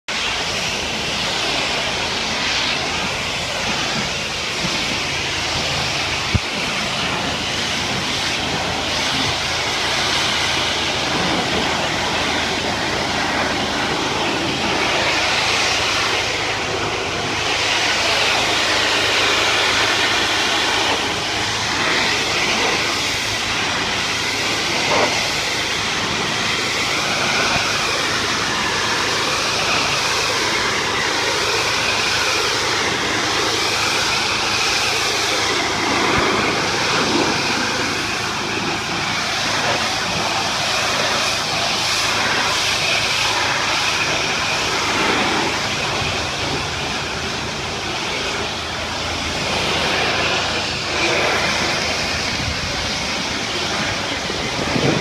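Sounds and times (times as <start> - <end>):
pressure washer water jet hissing: 0.1 - 55.0.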